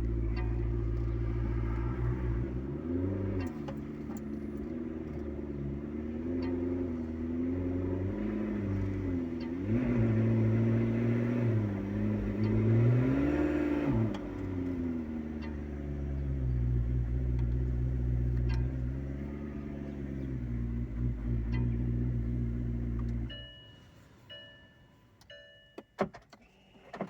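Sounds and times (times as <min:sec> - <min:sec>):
sports car engine revving: 0:00.0 - 0:23.4.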